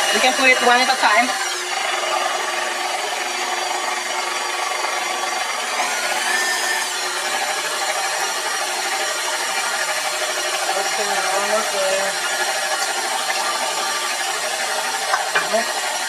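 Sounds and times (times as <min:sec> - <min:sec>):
electric mixer running: 0:00.0 - 0:16.0.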